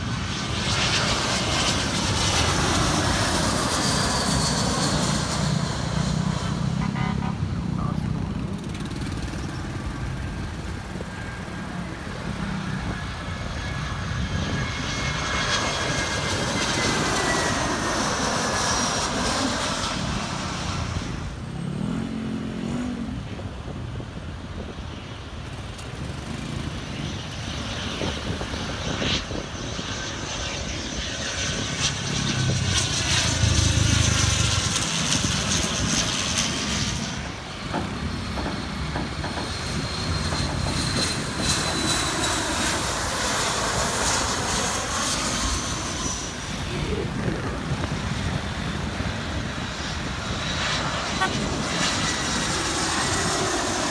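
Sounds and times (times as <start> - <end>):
airliner engines passing: 0.0 - 53.9.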